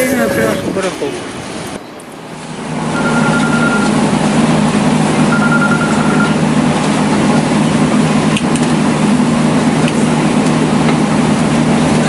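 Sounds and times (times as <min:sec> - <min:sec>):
vehicle interior low hum: 0:00.0 - 0:12.0.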